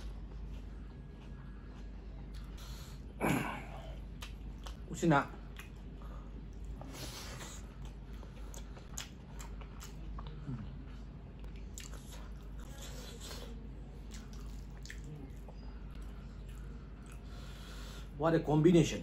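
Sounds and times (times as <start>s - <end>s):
man chewing food: 0.0s - 18.2s.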